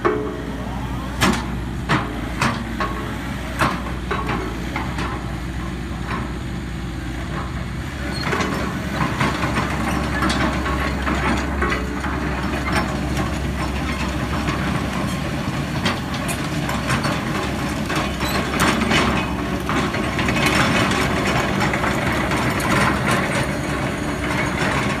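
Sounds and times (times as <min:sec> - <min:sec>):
excavator diesel engine hum: 0:00.0 - 0:25.0.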